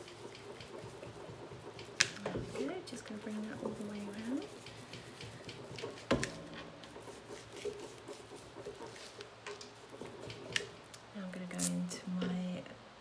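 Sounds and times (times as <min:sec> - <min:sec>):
ink dauber tapping: 0:00.0 - 0:10.8.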